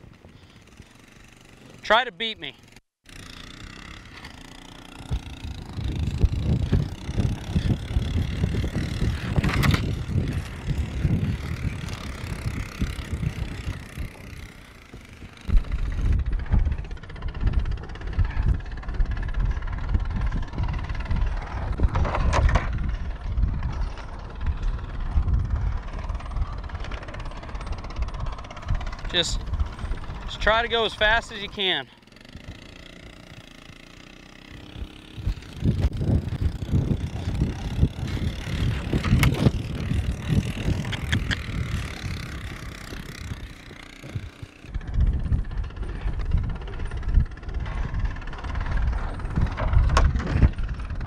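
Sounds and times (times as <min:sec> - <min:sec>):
four-wheeler engine running: 0:00.0 - 0:51.0
horse galloping: 0:04.1 - 0:51.0
wind rumble on microphone: 0:05.0 - 0:31.7, 0:34.5 - 0:51.0.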